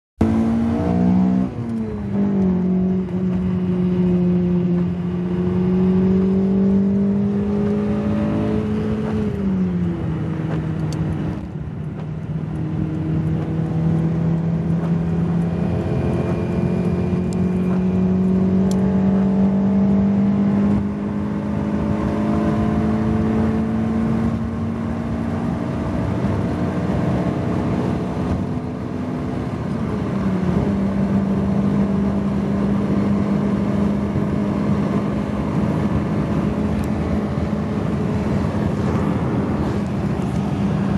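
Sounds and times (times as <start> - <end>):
car engine at high revs: 0.2 - 40.9.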